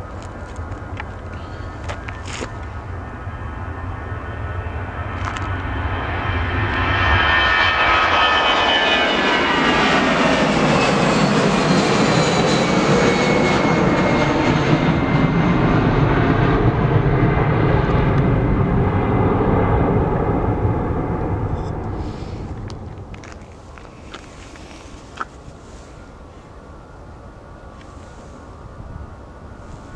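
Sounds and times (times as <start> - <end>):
jet airliner engines passing: 0.0 - 29.9.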